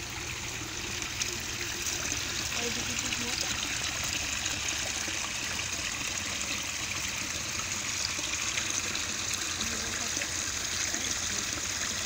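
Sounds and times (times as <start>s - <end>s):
small waterfall splashing into pond: 0.0s - 12.0s.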